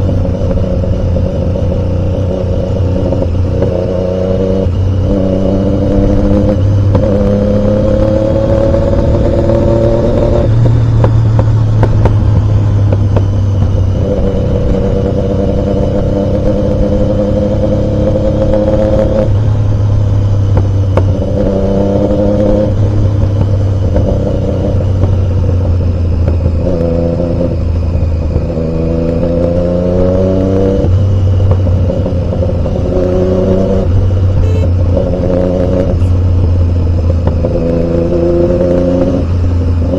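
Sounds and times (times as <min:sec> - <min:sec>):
low rumble: 0:00.0 - 0:39.9
motorcycle engine revving through gears: 0:00.0 - 0:39.9.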